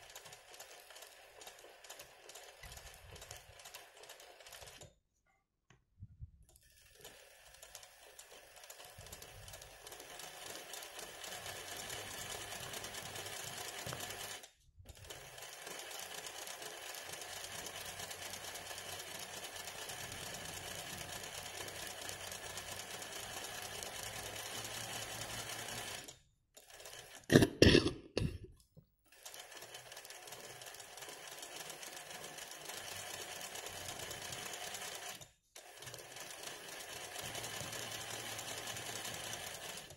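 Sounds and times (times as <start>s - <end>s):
sewing machine running: 0.0s - 4.8s, 6.6s - 27.3s, 29.1s - 39.9s.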